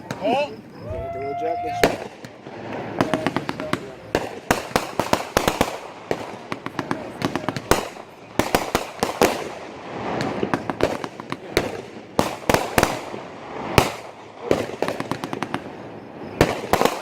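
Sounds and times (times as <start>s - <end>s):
fireworks banging: 0.0s - 17.0s
fireworks crackling: 0.0s - 17.0s.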